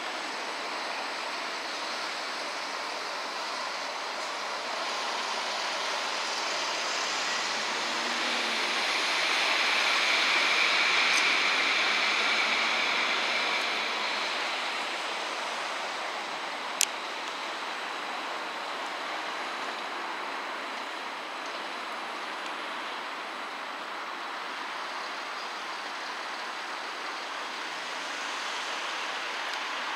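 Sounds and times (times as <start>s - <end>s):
faint high whine: 0.0s - 29.9s
tram rolling along track: 0.0s - 29.9s.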